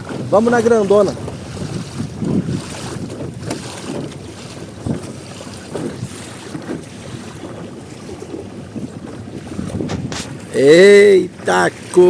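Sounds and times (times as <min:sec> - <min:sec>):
water sloshing against boat: 0:00.0 - 0:12.0
wind buffeting microphone: 0:00.0 - 0:12.0.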